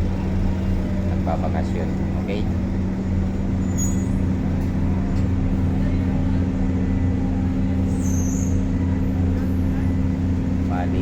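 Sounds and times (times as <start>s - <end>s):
large engine droning: 0.0s - 11.0s.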